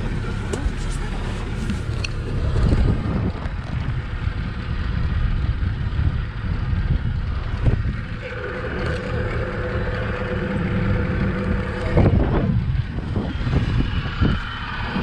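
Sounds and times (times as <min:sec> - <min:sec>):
outboard motor running: 0:00.0 - 0:15.0
wind buffeting microphone: 0:00.0 - 0:15.0.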